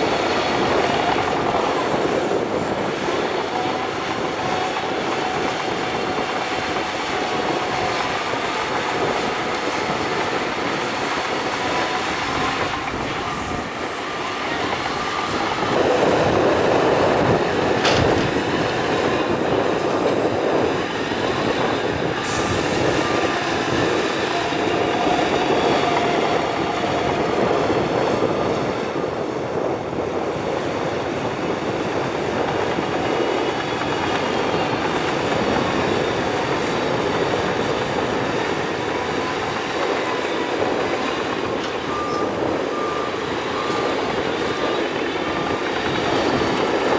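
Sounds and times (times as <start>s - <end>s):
bulldozer diesel engine: 0.0s - 46.9s
steel tracks clanking and squealing: 0.0s - 46.9s.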